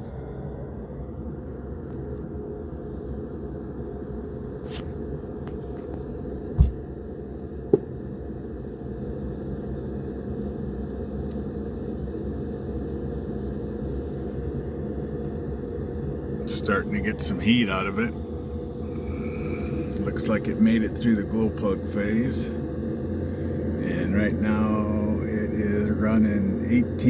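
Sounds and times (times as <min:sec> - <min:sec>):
heater fan whirring: 0:00.0 - 0:27.0.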